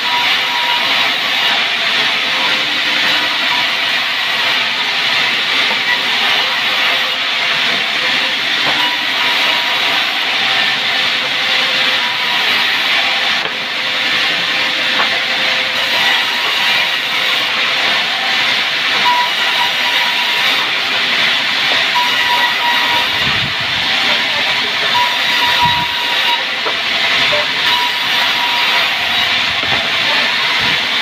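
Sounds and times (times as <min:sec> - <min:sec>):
sawmill saw cutting wood: 0:00.0 - 0:31.0.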